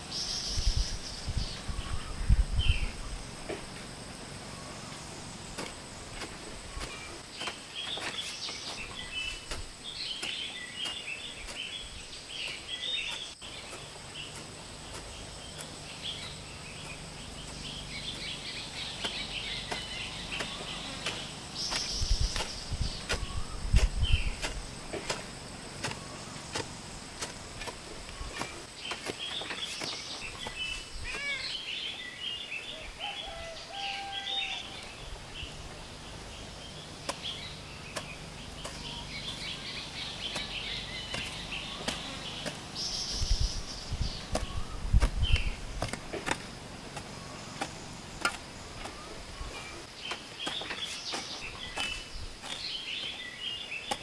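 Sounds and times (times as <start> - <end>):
high insect whine: 0.0 - 10.4, 11.2 - 49.9
small birds chirping: 0.0 - 54.0.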